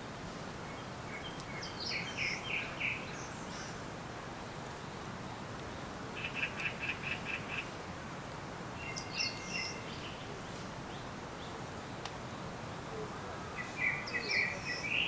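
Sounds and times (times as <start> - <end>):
songbirds chirping: 0.0 - 15.0
steady background hiss: 0.0 - 15.0.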